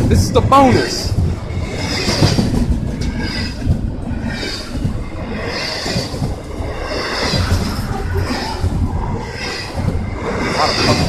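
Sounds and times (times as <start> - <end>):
train wheels clattering over rail joints: 0.0 - 11.0.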